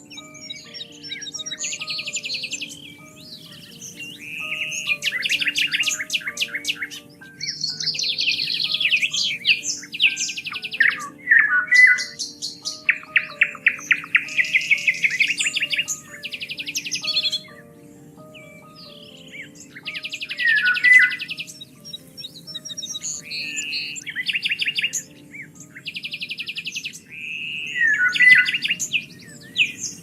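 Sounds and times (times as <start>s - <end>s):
soft music with low notes: 0.0s - 30.0s
songbirds singing: 0.0s - 30.0s.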